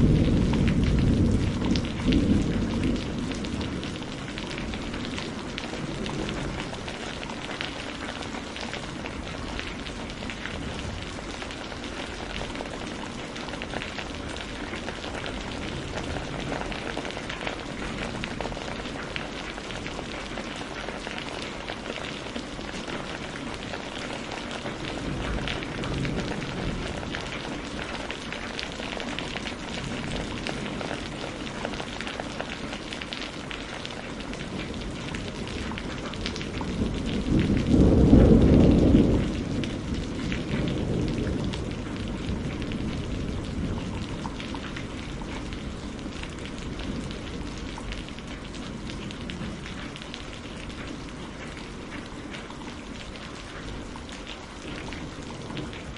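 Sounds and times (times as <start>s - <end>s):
crackles and drips: 0.0s - 55.9s
steady rain: 0.0s - 55.9s.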